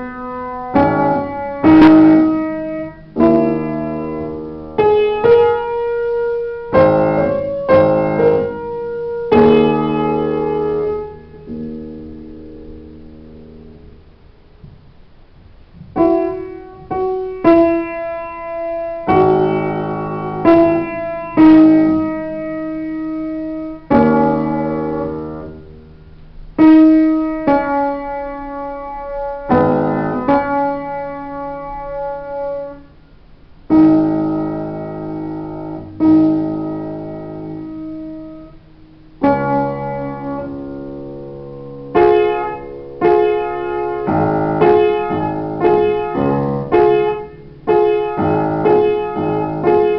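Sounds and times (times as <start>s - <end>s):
solo piano playing slowly: 0.0s - 49.9s.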